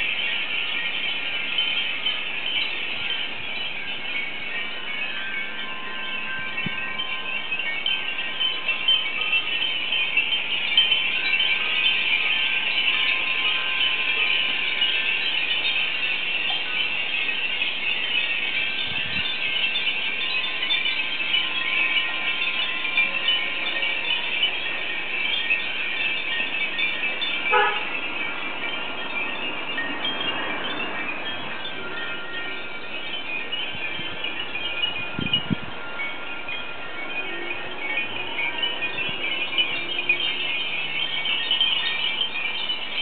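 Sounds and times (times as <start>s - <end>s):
glass wind chimes tinkling: 0.0s - 43.0s
strong wind: 0.0s - 43.0s.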